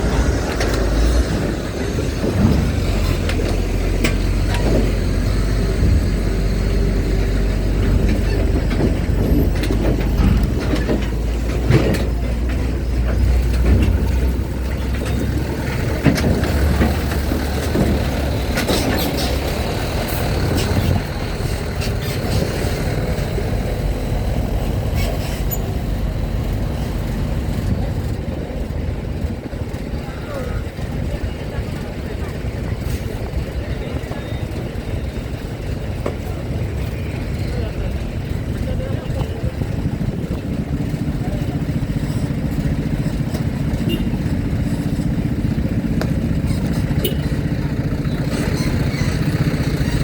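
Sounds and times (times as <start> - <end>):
truck and car engines rumbling: 0.0 - 50.0
wheels clanking on steel ramp: 0.0 - 50.0.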